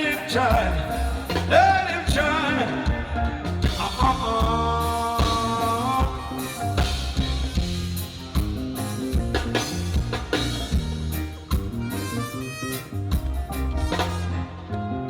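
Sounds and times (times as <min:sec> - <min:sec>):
live band playing upbeat song: 0:00.0 - 0:15.0.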